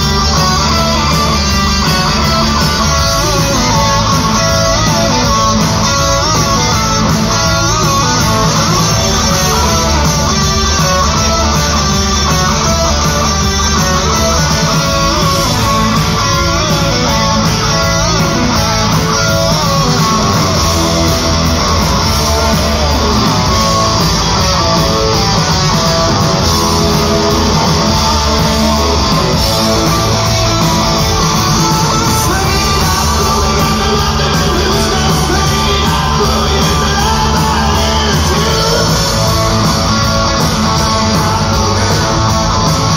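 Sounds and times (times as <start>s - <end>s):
electric guitar: 0.0s - 42.9s
rock band playing: 0.0s - 42.9s.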